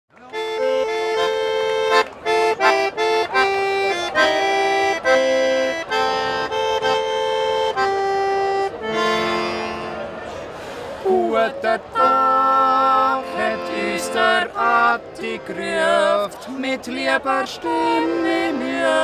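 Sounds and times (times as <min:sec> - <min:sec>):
button accordion playing chords: 0:00.2 - 0:19.0.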